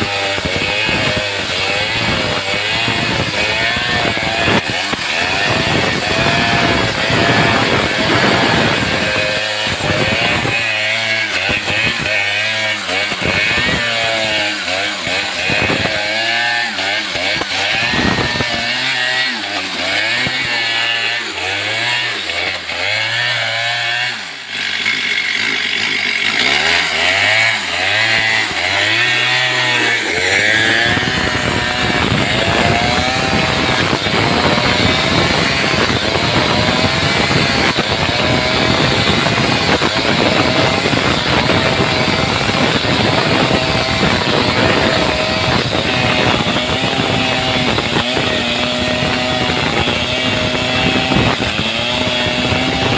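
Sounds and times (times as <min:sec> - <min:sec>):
chainsaw engine revving: 0:00.0 - 0:52.9.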